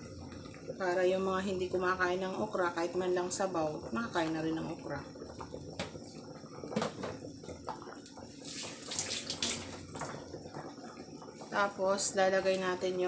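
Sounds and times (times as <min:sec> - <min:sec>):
broth bubbling in pot: 0:00.0 - 0:13.0.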